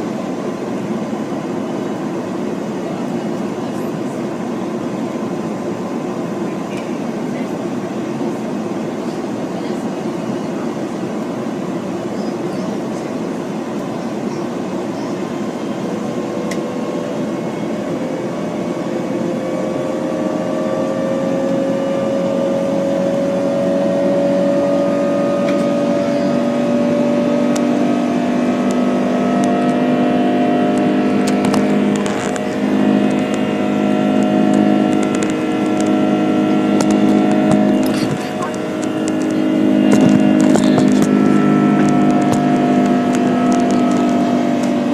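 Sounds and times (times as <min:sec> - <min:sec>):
jet engine whine rising: 0:00.0 - 0:44.9
jet engines rumbling: 0:00.0 - 0:44.9.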